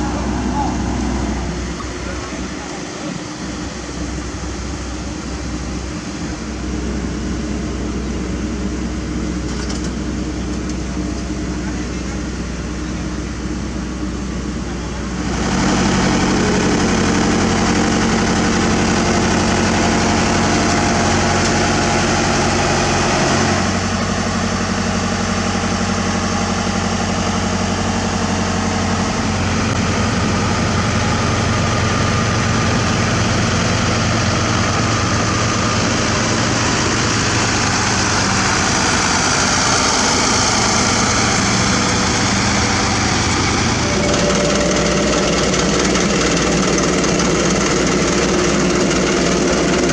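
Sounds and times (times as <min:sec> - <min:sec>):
heavy diesel engines running: 0:00.0 - 0:49.9.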